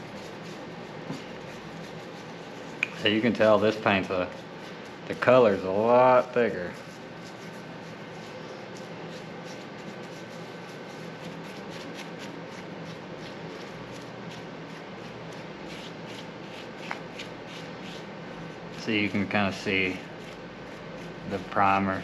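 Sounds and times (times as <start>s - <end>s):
paintbrush brushing paint: 0.0s - 22.0s.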